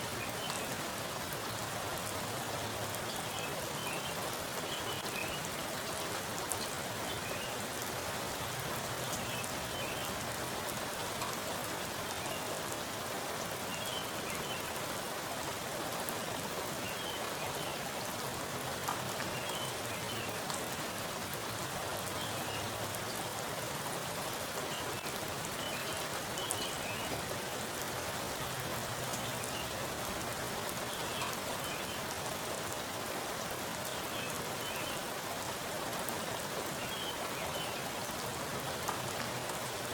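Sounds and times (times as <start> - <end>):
heavy rain on standing water: 0.0 - 39.9.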